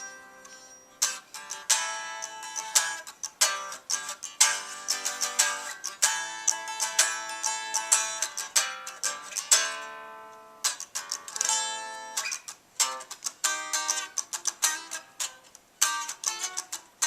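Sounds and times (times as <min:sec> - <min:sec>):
unplugged electric guitar picking: 0:00.0 - 0:17.0.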